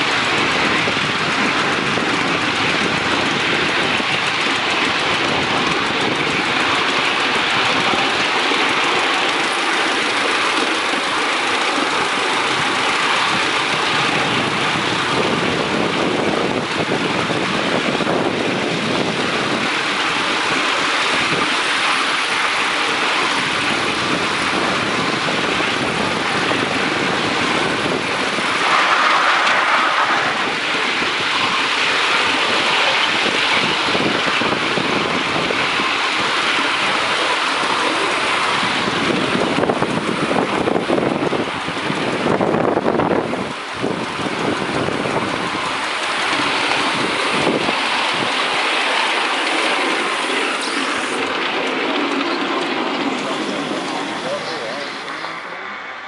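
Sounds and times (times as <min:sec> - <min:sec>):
miniature steam train running: 0:00.0 - 0:56.0
wind on microphone: 0:00.0 - 0:56.0.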